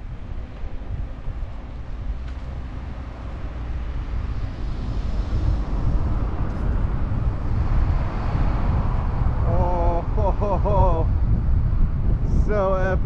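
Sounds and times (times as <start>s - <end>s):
high-speed train rushing rumble: 0.0s - 13.0s.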